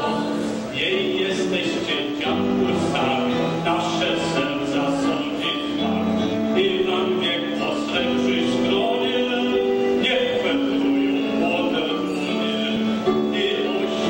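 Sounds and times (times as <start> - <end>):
man singing into microphone: 0.0 - 14.0
piano and band accompaniment: 0.0 - 14.0.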